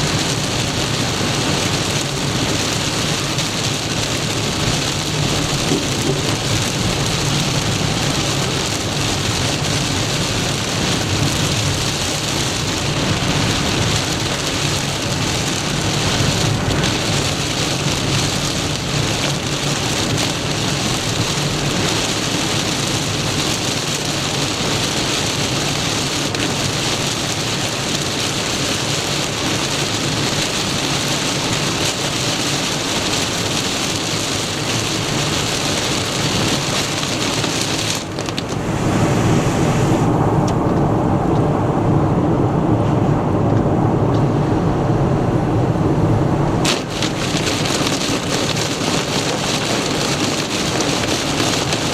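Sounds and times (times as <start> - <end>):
heavy rain drumming on car: 0.0 - 51.9
road and engine rumble: 0.0 - 51.9.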